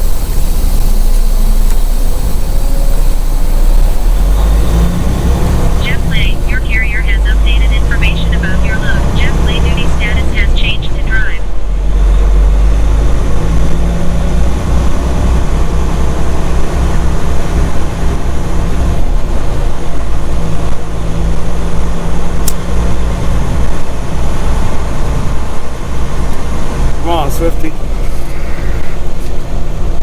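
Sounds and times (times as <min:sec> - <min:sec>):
road noise: 0:00.0 - 0:30.0
truck diesel engine drone: 0:00.0 - 0:30.0.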